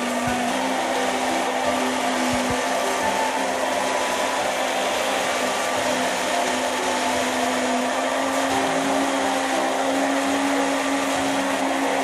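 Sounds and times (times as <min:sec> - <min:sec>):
food chopper motor whirring: 0:00.0 - 0:12.0.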